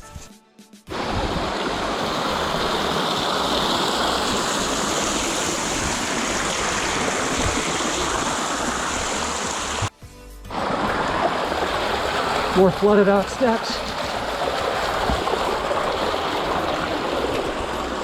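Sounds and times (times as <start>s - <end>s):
water rushing down stone steps: 0.9s - 9.9s, 10.5s - 18.0s.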